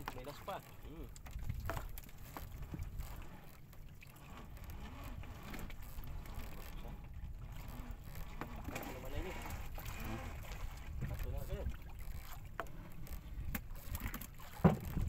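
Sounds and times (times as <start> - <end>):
water sloshing: 0.0 - 15.0
wind rumbling on microphone: 0.8 - 3.3, 4.4 - 15.0.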